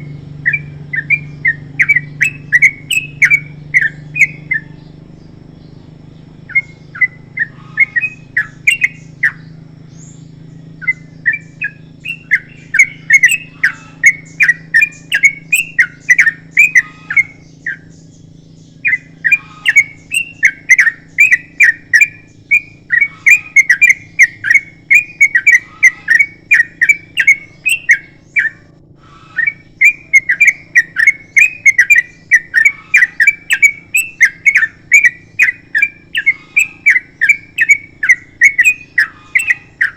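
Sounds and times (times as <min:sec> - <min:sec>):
bird singing whistled notes: 0:00.0 - 0:39.9
faint low hum: 0:00.0 - 0:39.9.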